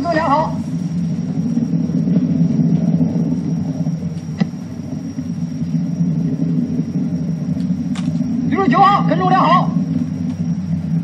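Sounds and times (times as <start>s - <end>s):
rocket rumble over loudspeakers: 0.0s - 11.0s.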